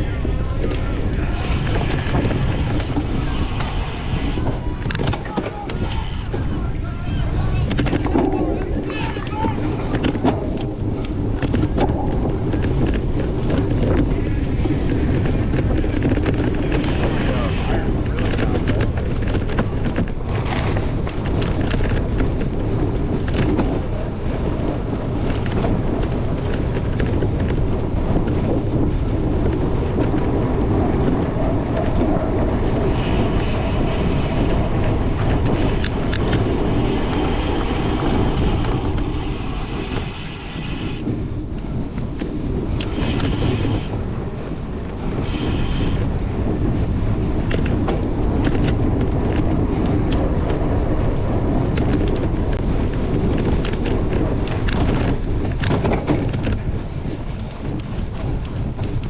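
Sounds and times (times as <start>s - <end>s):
bike rattling over rough ground: 0.0s - 59.0s
wind buffeting microphone: 0.0s - 59.0s.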